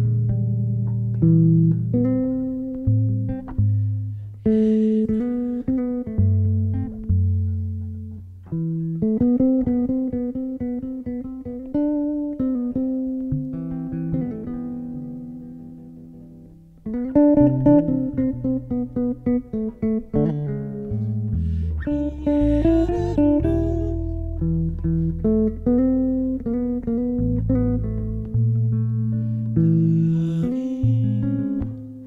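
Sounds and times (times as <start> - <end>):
electric basses playing: 0.0 - 32.0.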